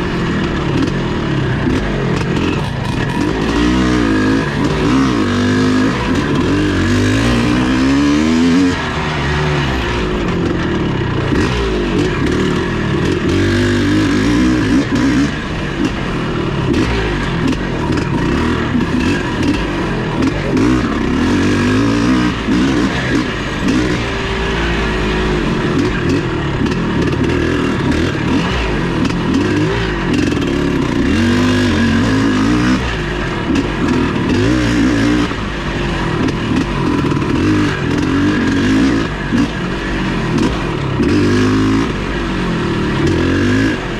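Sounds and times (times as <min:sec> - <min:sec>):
constant rough noise: 0:00.0 - 0:43.9
motorcycle engine revving: 0:00.0 - 0:43.9.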